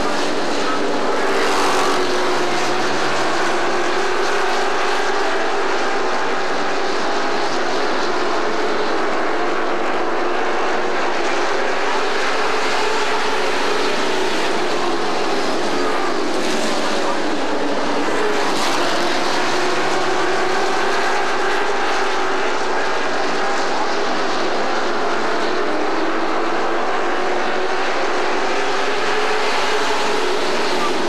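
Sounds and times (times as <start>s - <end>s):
racing truck engines droning: 0.0s - 31.0s.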